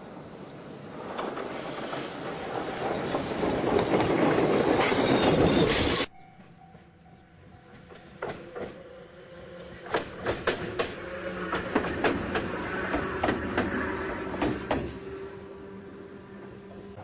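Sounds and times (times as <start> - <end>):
electric railcar rumbling past: 0.0 - 17.0.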